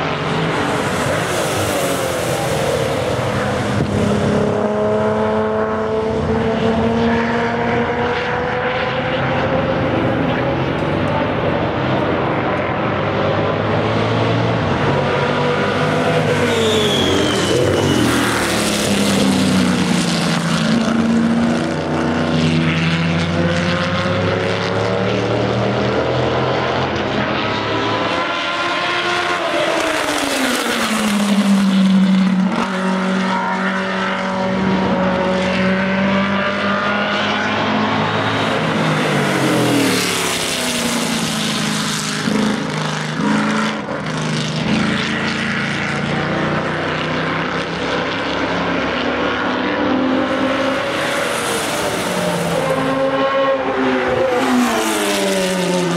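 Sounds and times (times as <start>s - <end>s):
racing car engines passing by: 0.0s - 55.9s.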